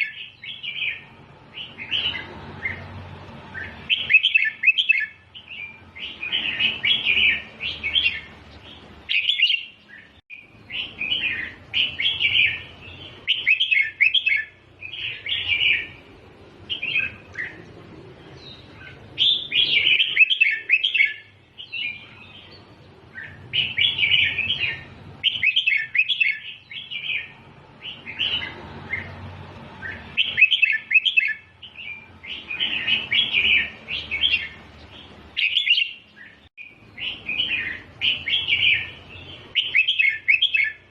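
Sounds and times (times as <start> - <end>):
bulbul singing whistled phrases: 0.0 - 2.9, 3.5 - 16.1, 16.7 - 17.6, 18.3 - 29.2, 29.8 - 40.9.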